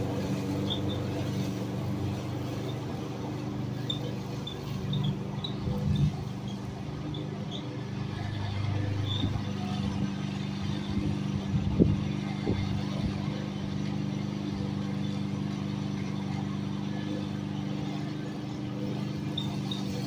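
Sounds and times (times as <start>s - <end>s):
lawn mower running: 0.0s - 20.0s.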